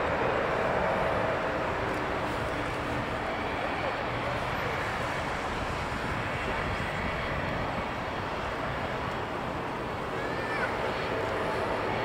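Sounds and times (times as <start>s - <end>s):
jet engines at takeoff thrust: 0.0s - 12.0s.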